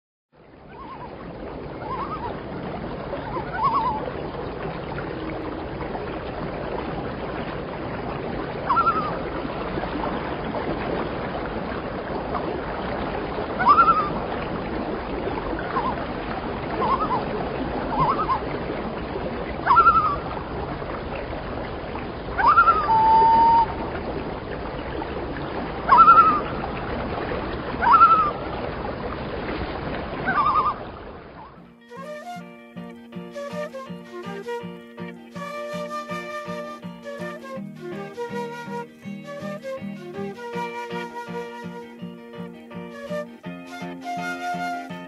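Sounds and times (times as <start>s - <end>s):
water lapping and splashing: 0.3s - 45.0s
loons calling: 0.6s - 6.1s, 7.6s - 10.5s, 12.2s - 24.7s, 25.8s - 27.0s, 27.7s - 28.8s, 30.1s - 45.0s.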